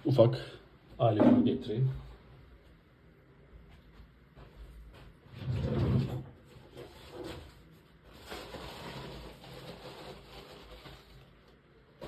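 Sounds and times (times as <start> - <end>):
faint knocks and shuffling: 0.8 - 12.0.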